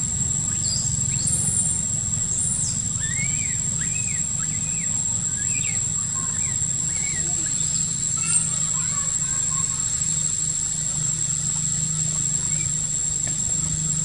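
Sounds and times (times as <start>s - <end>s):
high-pitched insect drone: 0.0s - 14.0s
rising-and-falling chirps: 2.4s - 14.0s.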